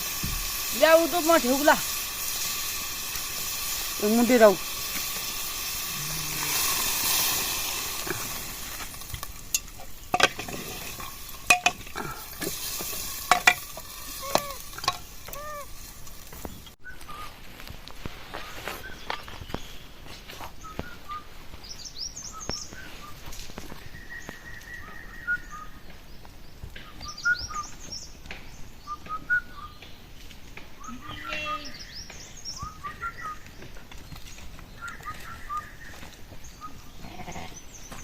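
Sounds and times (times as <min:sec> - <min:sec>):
small birds chirping: 0:00.0 - 0:10.3, 0:11.0 - 0:38.0.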